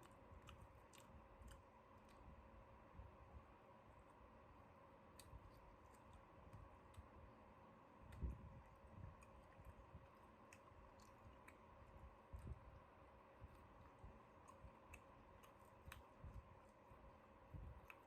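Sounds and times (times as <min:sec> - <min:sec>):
faint steady hum: 0:00.0 - 0:18.0
soft low chewing thuds: 0:00.0 - 0:18.0.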